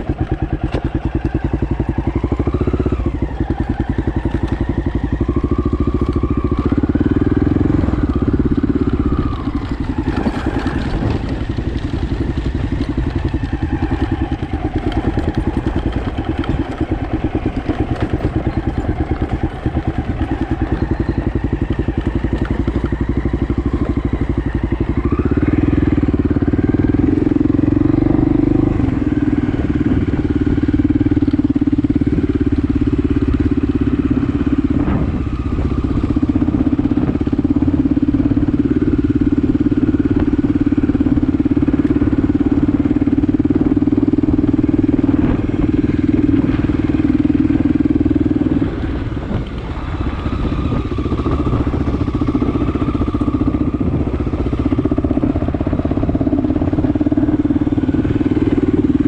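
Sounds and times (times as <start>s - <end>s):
single-cylinder motorcycle engine running: 0.0s - 59.0s.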